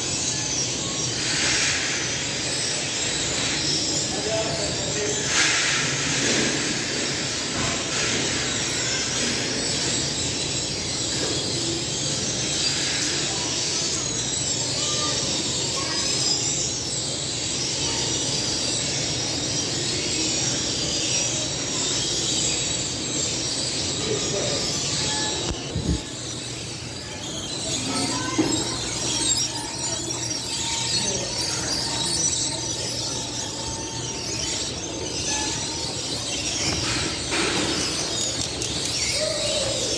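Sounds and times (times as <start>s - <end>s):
bread oven and extractor hood running: 0.0s - 39.9s.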